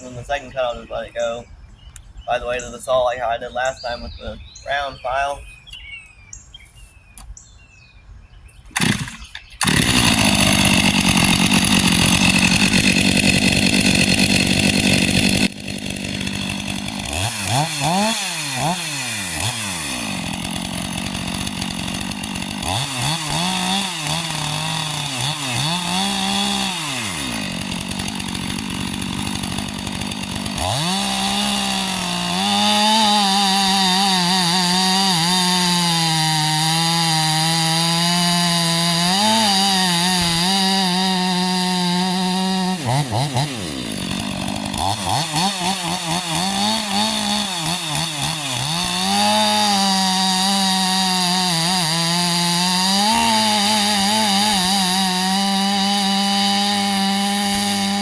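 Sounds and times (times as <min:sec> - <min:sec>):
chainsaw cutting and revving: 0:08.7 - 0:58.0.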